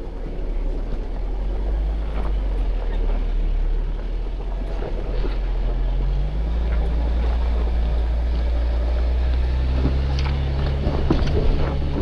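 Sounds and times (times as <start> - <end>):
off-road vehicle engine rumble: 0.0 - 12.0.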